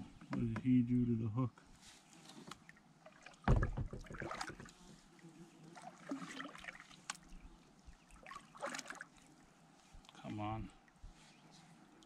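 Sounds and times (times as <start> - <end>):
water trickling and lapping: 2.0 - 12.0.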